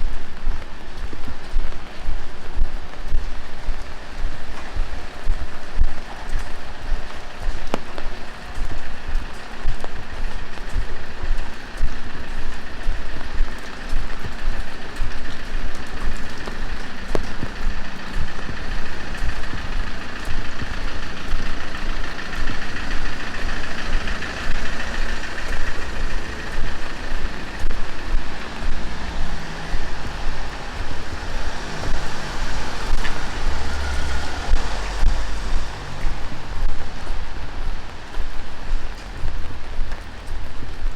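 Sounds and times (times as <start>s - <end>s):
heavy rain on street: 0.0s - 40.9s
vehicle passing on wet road: 0.2s - 40.9s.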